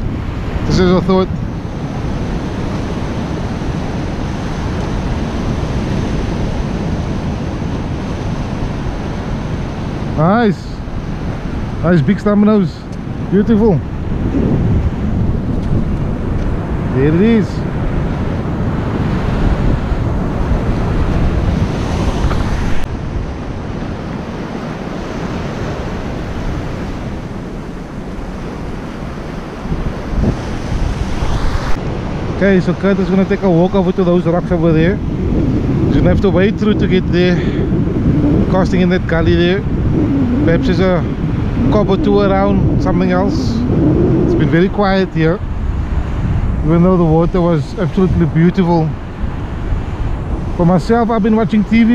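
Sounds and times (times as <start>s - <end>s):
ocean surf washing onto beach: 0.0s - 51.9s
wind rumbling on microphone: 0.0s - 51.9s.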